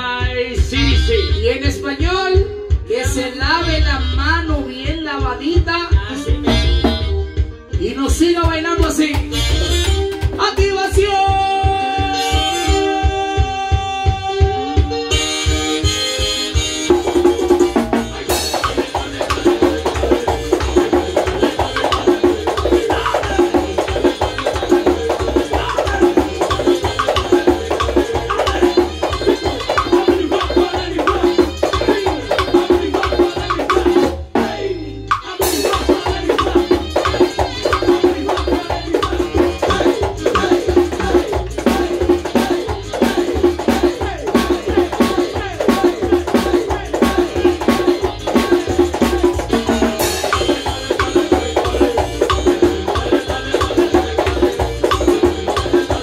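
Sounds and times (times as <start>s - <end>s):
recorded band music with bass: 0.0s - 56.0s
drum played with stick and hand: 4.4s - 56.0s.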